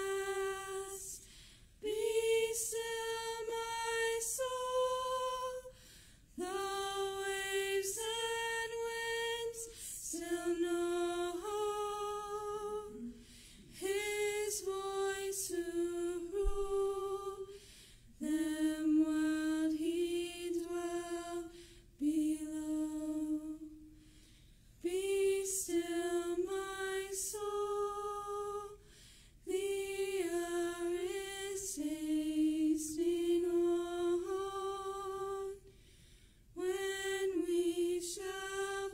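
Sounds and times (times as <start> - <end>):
women singing unaccompanied: 0.0 - 5.8, 6.4 - 17.6, 18.2 - 23.8, 24.8 - 28.8, 29.4 - 35.7, 36.6 - 38.9.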